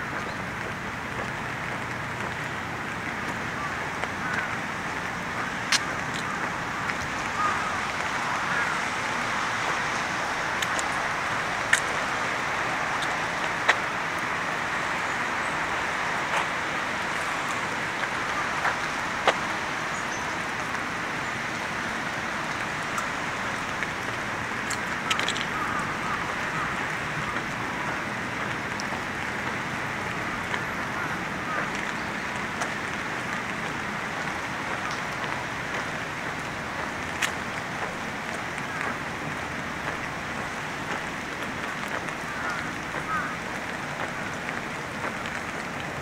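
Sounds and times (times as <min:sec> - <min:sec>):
rain hiss: 0:00.0 - 0:46.0.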